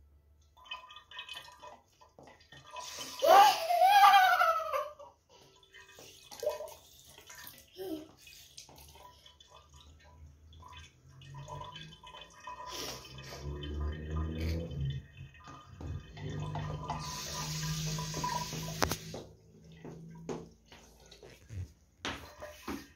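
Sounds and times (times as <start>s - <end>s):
water running into ceramic bowl: 0.4s - 22.9s.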